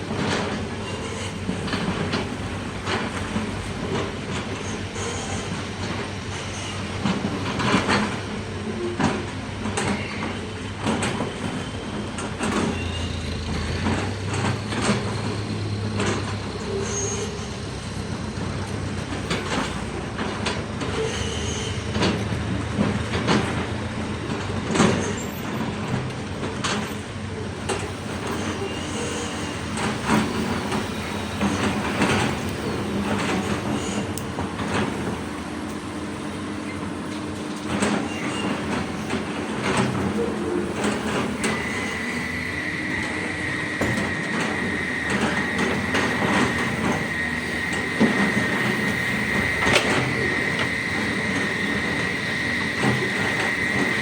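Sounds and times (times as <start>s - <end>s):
diesel engines under load: 0.0s - 54.0s.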